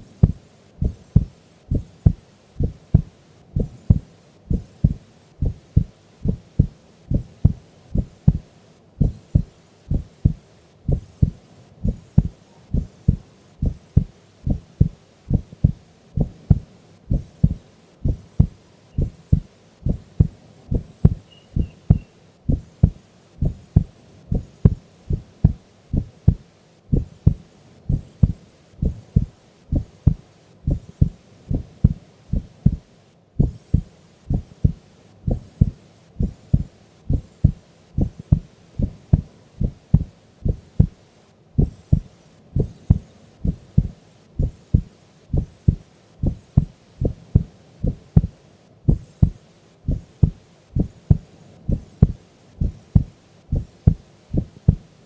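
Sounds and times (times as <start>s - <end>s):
heart beating: 0.0s - 41.0s, 41.6s - 54.9s.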